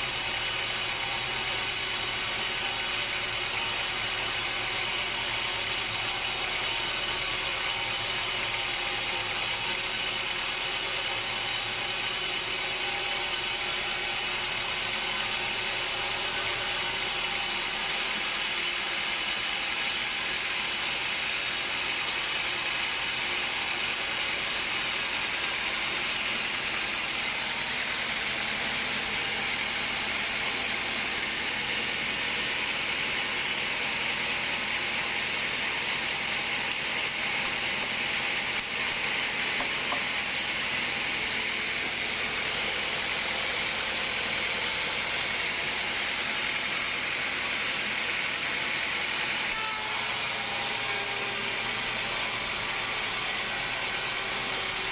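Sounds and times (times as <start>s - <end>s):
saw cutting through wood: 0.0s - 54.9s.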